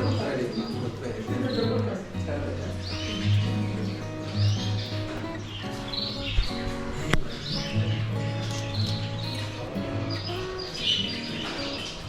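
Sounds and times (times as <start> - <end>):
music: 0.0 - 12.0
small birds chirping: 0.0 - 12.0.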